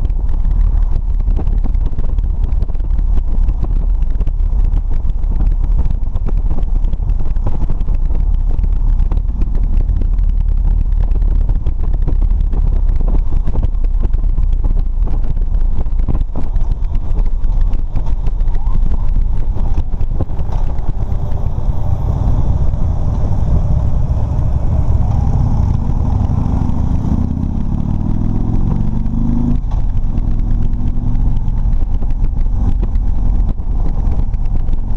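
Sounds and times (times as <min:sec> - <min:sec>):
motorcycle engine accelerating: 0:00.0 - 0:34.9
wind noise on microphone: 0:00.0 - 0:34.9.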